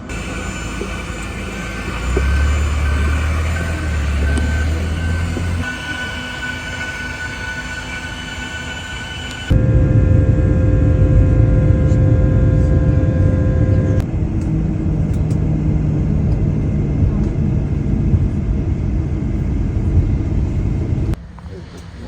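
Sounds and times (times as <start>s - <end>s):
large engine rumbling: 0.0s - 22.0s.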